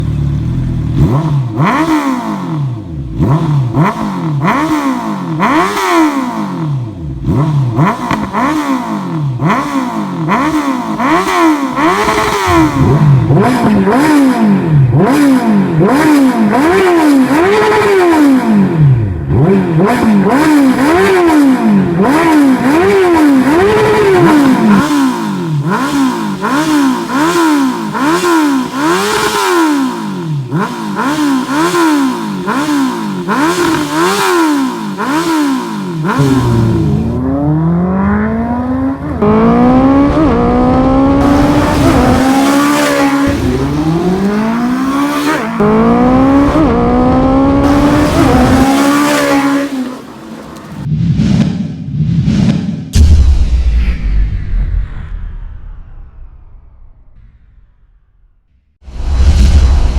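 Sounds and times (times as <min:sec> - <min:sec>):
motorcycle engine revving: 0:00.0 - 0:53.1.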